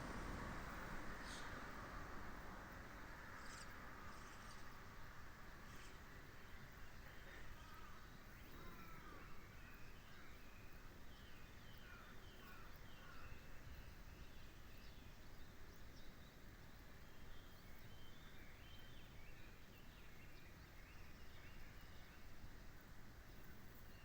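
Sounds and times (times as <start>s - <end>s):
outdoor background hiss: 0.0s - 24.0s
wild birds chirping: 0.0s - 24.0s.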